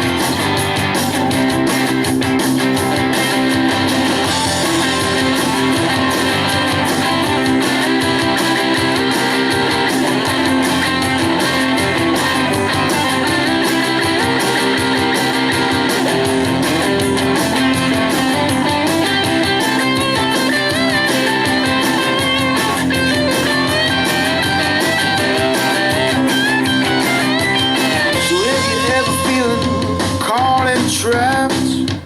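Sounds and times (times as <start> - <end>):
electric guitars: 0.0 - 32.0
rock band playing: 0.0 - 32.0.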